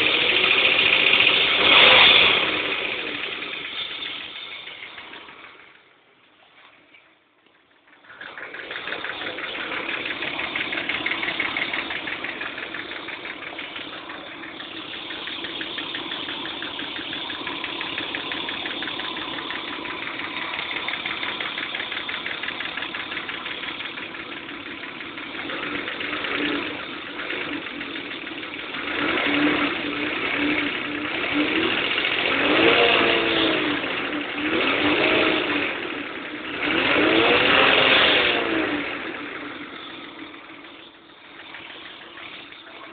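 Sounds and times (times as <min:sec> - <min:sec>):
fast clicking from engine: 0:00.0 - 0:05.6, 0:07.9 - 0:42.9
car engine running and revving: 0:00.0 - 0:05.7, 0:08.1 - 0:42.9.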